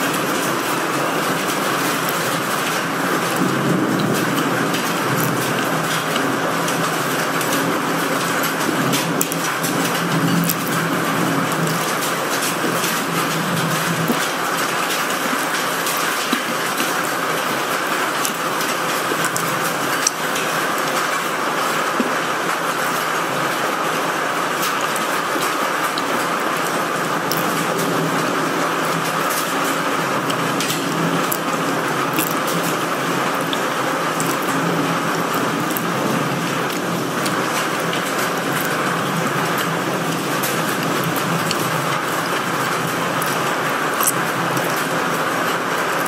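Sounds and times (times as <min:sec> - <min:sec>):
storm wind and rain: 0:00.0 - 0:46.0
raindrops ticking on window glass: 0:00.1 - 0:46.0.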